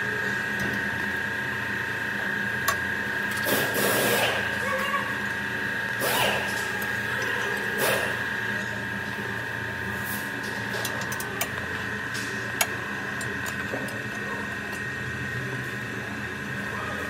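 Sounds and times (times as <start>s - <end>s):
steady machine hum with whine: 0.0s - 17.0s.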